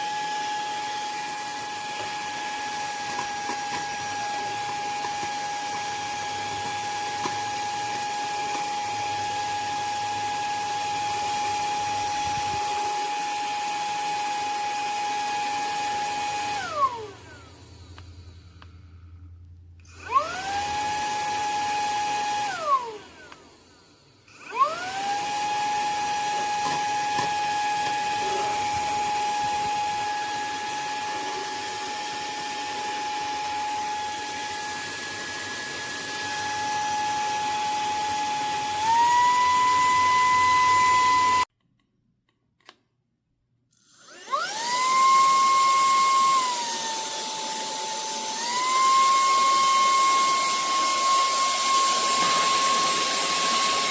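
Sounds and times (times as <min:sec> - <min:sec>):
handheld vacuum motor whining: 0:00.0 - 0:41.5, 0:43.7 - 0:53.9.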